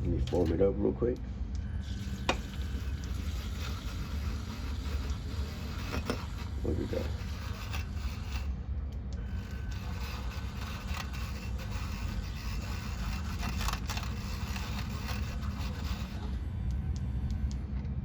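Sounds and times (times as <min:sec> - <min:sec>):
light scrapes and clicks: 0:00.1 - 0:00.7, 0:01.8 - 0:16.4
milk frother whirring: 0:01.5 - 0:17.1.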